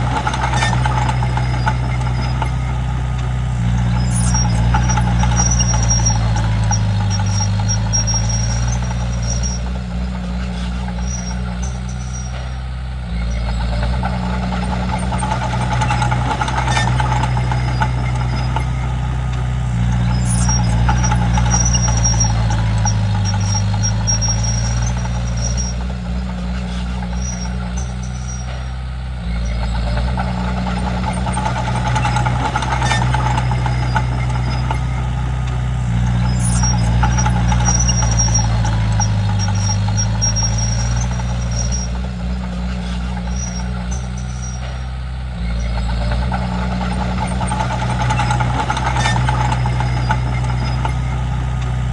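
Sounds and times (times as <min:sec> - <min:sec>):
bulldozer diesel engine under load: 0:00.0 - 0:51.9.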